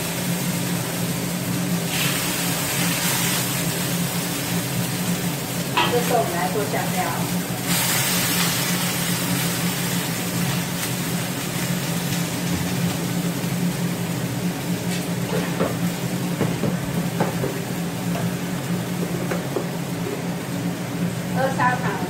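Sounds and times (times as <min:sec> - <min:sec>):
kitchen fan humming: 0:00.0 - 0:22.0
wok simmering quietly: 0:00.0 - 0:22.0.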